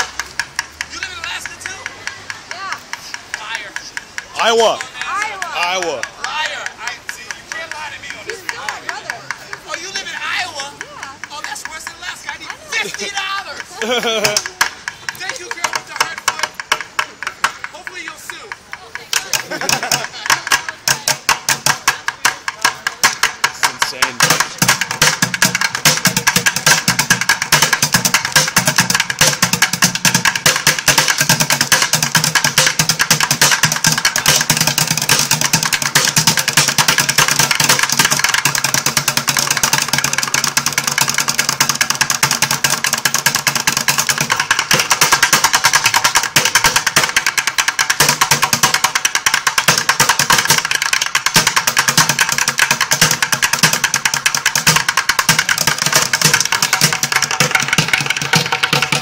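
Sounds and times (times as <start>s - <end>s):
drumsticks on plastic buckets: 0.0s - 59.0s.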